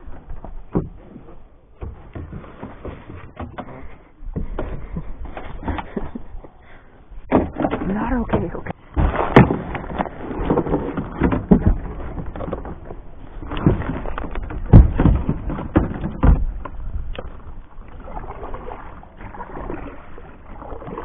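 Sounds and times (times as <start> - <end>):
kayak hull and paddle knocks: 0.0 - 6.5, 7.2 - 21.0.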